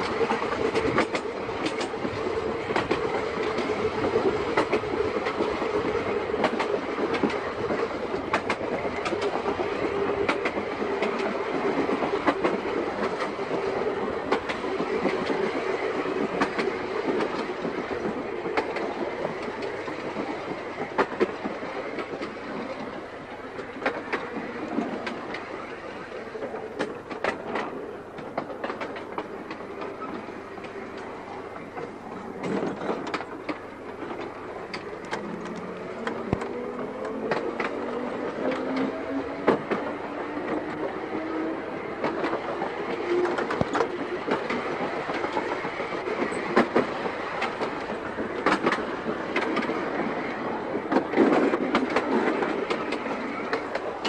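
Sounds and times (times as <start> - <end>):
tram motor hum: 0.0 - 54.0
wheels clicking over rail joints: 0.0 - 54.0.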